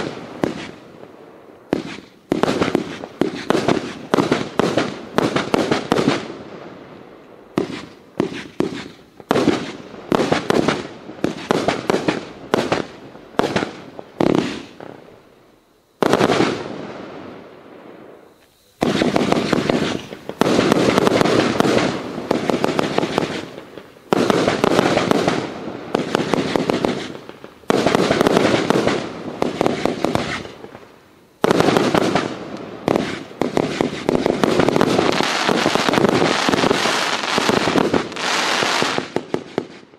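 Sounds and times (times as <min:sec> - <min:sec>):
firework shots banging: 0:00.0 - 0:00.8, 0:01.7 - 0:06.3, 0:07.5 - 0:15.0, 0:18.8 - 0:39.8.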